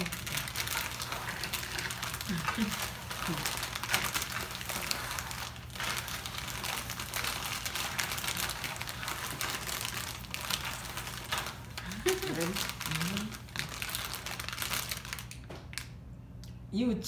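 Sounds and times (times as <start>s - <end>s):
plastic wrappers crinkling: 0.0s - 16.0s.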